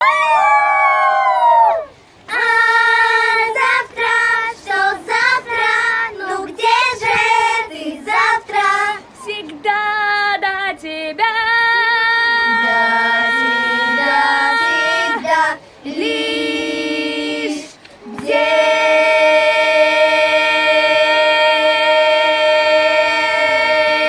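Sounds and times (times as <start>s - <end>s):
child singing: 2.3s - 24.0s.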